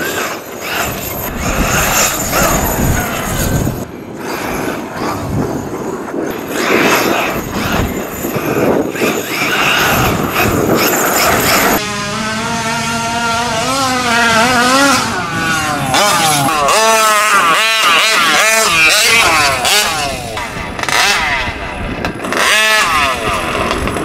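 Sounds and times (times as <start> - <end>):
two-stroke engine drone: 0.0 - 24.0.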